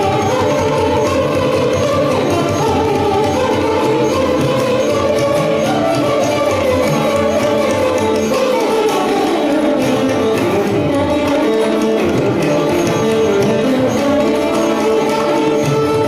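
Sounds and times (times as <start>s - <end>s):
indian classical instrumental music: 0.0s - 16.0s.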